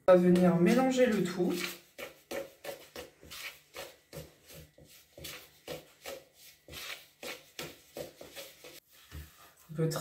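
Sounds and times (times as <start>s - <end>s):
spoon stirring dough in plastic bowl: 0.0s - 9.6s.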